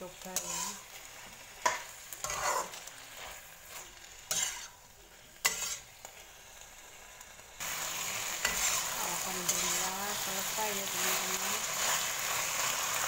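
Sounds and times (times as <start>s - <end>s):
food sizzling in a wok: 0.0s - 13.0s
spatula scraping a pan: 0.2s - 6.3s, 7.6s - 13.0s.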